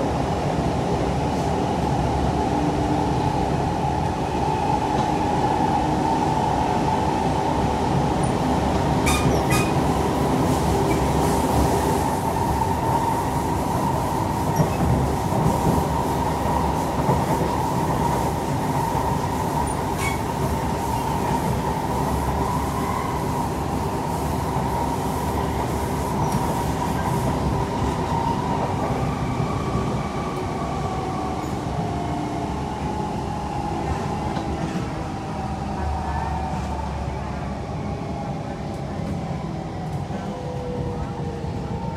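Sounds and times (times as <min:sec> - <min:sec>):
train wheels on rail: 0:00.0 - 0:41.9.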